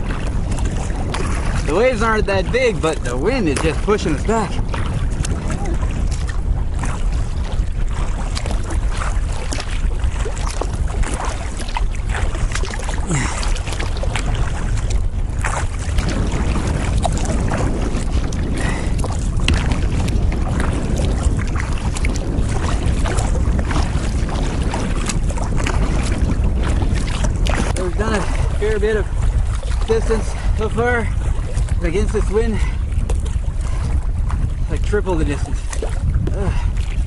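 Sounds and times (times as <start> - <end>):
paddle splashes: 0.0 - 37.0
water slapping against kayak hull: 0.0 - 37.0
wind buffeting microphone: 0.0 - 37.0.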